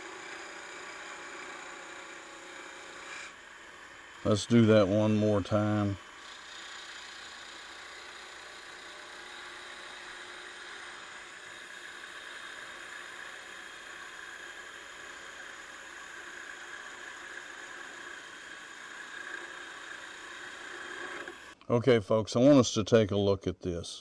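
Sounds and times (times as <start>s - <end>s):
wood lathe hissing whir: 0.0s - 21.6s.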